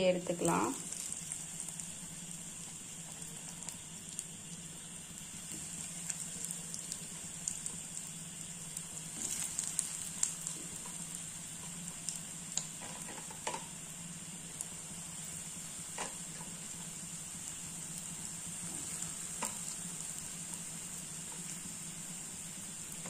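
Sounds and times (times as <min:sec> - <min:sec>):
cutlets sizzling in hot oil: 0:00.0 - 0:23.0.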